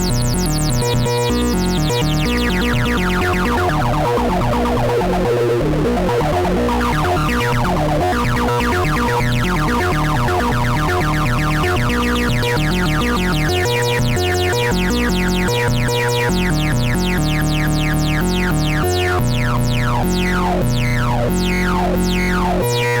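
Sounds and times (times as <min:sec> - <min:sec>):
bass synthesizer notes: 0:00.0 - 0:23.0.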